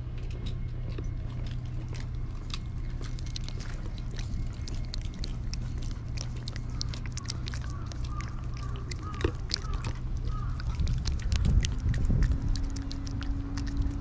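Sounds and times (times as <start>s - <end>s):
cat licking wet clicks: 1.3s - 14.0s.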